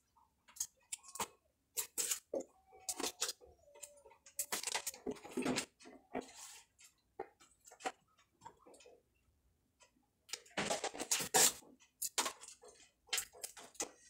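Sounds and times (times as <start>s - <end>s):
plastic crinkling and rattling: 0.4s - 8.8s, 10.3s - 14.0s.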